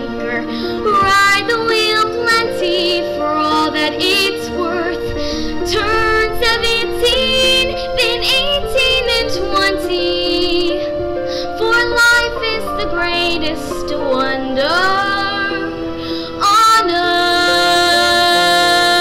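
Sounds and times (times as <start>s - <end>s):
backing music: 0.0s - 19.0s
girl singing through microphone: 0.0s - 19.0s.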